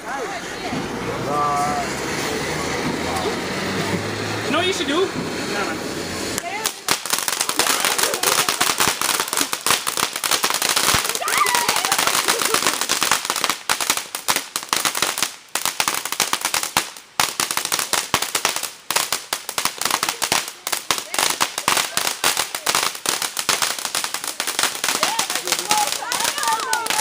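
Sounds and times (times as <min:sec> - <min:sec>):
firecrackers popping: 0:00.0 - 0:27.0.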